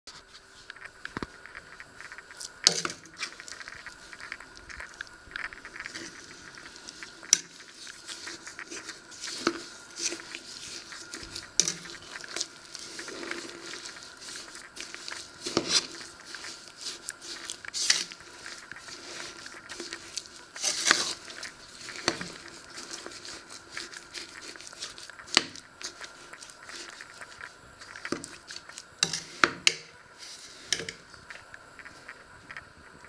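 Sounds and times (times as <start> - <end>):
spoon scraping sugar in pot: 0.1 - 31.3.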